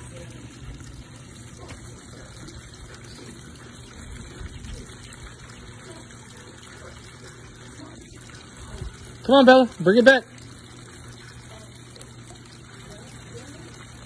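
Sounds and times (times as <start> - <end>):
fountain water trickling and splashing: 0.0 - 14.0.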